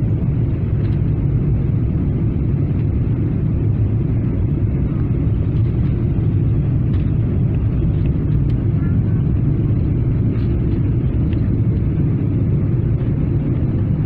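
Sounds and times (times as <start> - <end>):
airflow around fuselage: 0.0 - 14.0
jet engine drone in cabin: 0.0 - 14.0.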